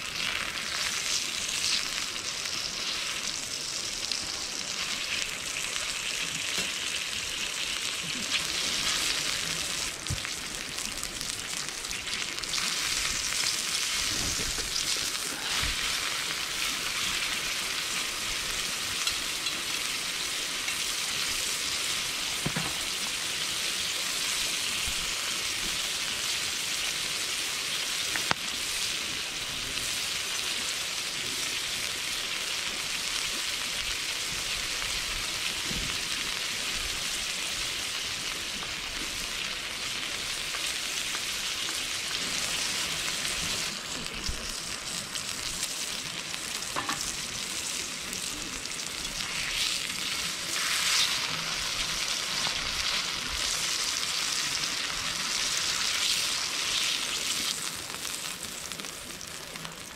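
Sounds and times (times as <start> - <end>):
food sizzling on hot iron plate: 0.0 - 59.9.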